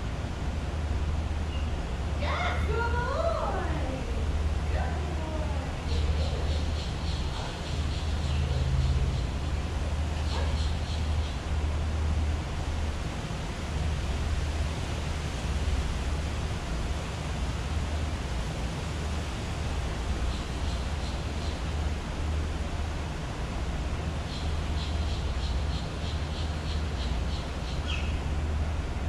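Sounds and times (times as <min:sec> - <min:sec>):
rushing outdoor noise: 0:00.0 - 0:29.0.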